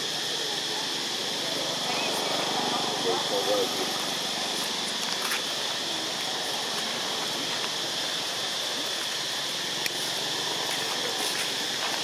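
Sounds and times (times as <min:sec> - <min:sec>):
continuous even hiss: 0:00.0 - 0:12.0.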